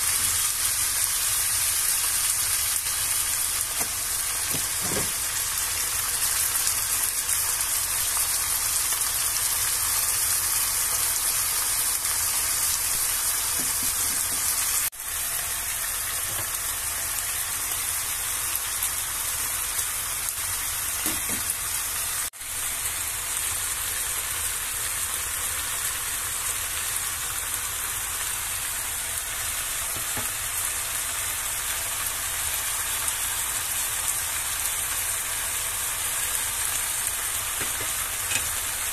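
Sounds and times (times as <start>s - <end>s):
vegetables sizzling in a wok: 0.0s - 38.9s.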